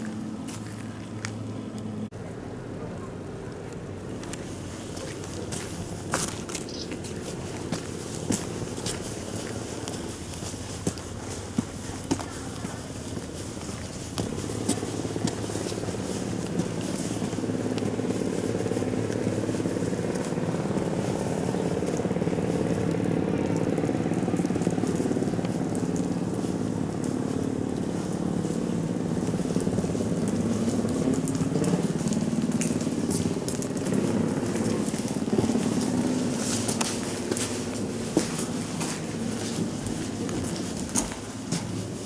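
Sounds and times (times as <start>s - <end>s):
footsteps clicking: 0.0s - 1.9s, 4.2s - 42.0s
low mechanical hum: 0.0s - 42.0s.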